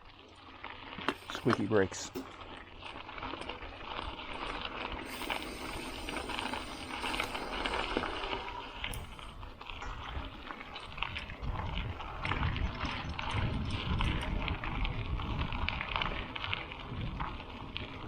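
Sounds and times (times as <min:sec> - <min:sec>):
bicycle tyres crunching on gravel: 0:00.0 - 0:18.0
bike clicks and rattles: 0:00.0 - 0:18.0.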